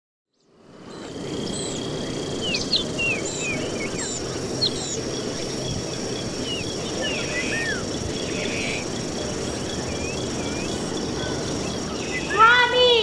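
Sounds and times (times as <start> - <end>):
birds chirping: 0.3 - 13.0
steady rushing background: 0.6 - 13.0
thin high steady whine: 0.6 - 13.0.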